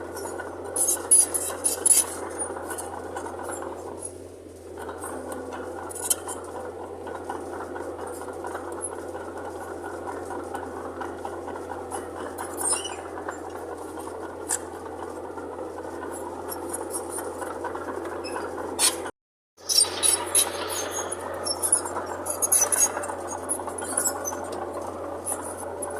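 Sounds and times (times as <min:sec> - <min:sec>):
bulldozer diesel engine running: 0:00.0 - 0:25.9.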